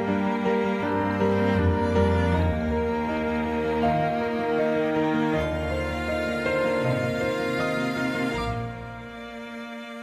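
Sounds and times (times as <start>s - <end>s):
slow sad string music: 0.0s - 10.0s.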